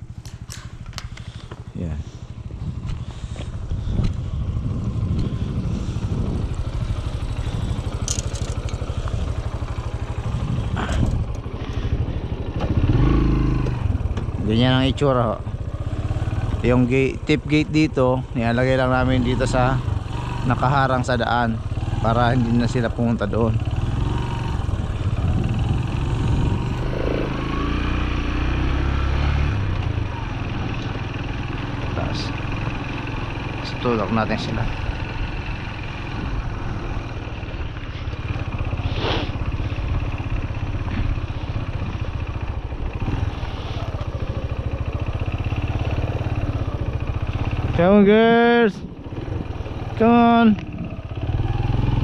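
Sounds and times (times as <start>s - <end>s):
small motorbike engine running: 0.0s - 52.0s.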